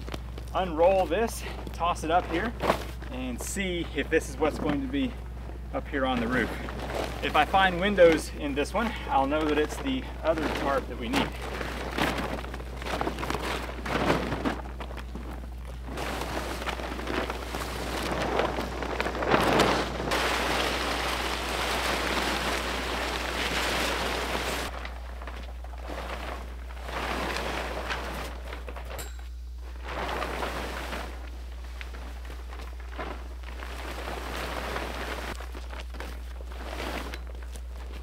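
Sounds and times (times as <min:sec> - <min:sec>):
tarp rustling and crackling: 0:00.0 - 0:38.0.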